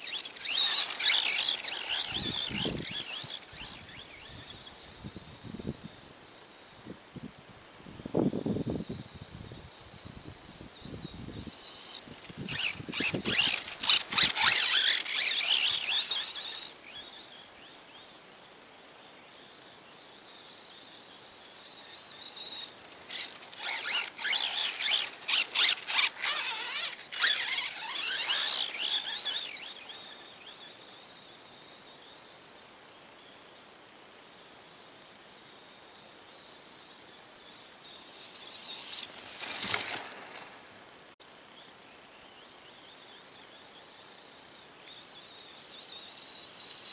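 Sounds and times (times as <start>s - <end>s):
rc car motor whine: 0.0s - 6.0s, 8.0s - 18.4s, 19.9s - 32.2s, 37.2s - 40.8s, 41.5s - 46.9s
faint high chirring: 0.0s - 7.0s, 7.9s - 33.6s, 34.4s - 40.8s, 41.5s - 46.9s.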